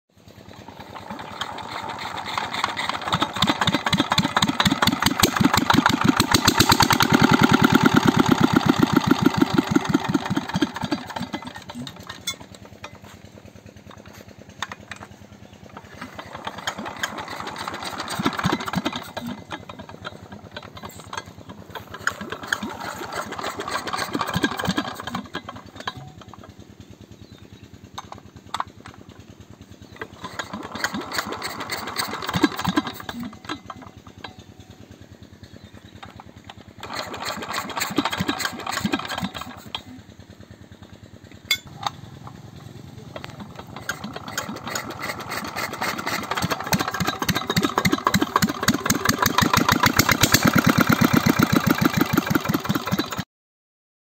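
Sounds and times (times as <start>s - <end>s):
small diesel engine running: 0.1s - 53.3s.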